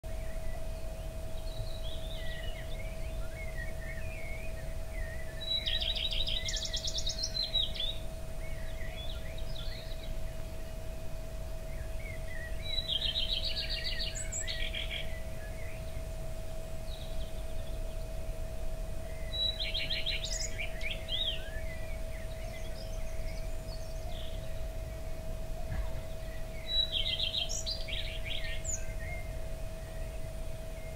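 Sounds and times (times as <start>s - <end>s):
faint hum: 0.0s - 30.9s
bird chirps: 0.1s - 10.8s, 11.6s - 16.1s, 19.0s - 30.9s
songbird trilling: 1.3s - 10.8s, 11.7s - 16.0s, 19.0s - 30.9s.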